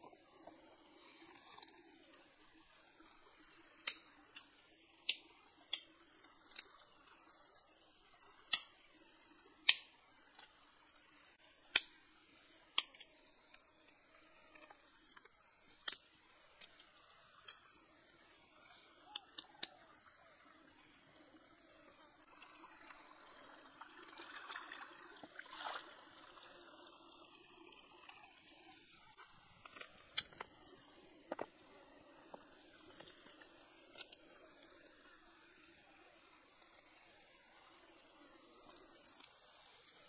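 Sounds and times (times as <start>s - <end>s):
faint high-pitched hum: 0.0s - 40.0s.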